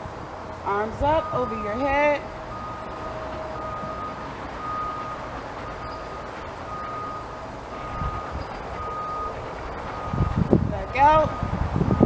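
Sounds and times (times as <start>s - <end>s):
vehicle reversing alarm beeping: 0.2s - 12.0s.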